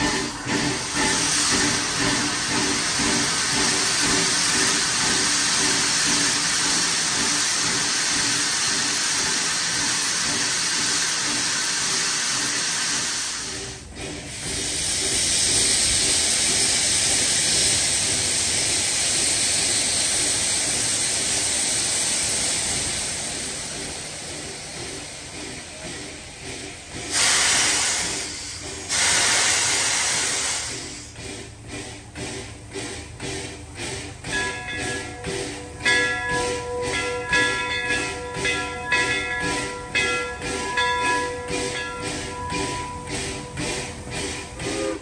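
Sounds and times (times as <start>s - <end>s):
steam venting hiss: 0.0s - 31.9s, 36.3s - 45.0s.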